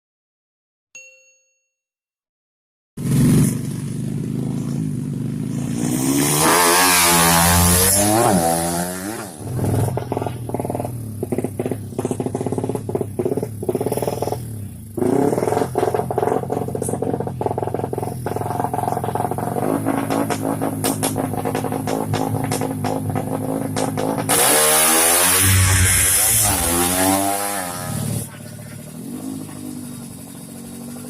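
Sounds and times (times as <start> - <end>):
motorcycle engines revving: 3.0 - 31.0.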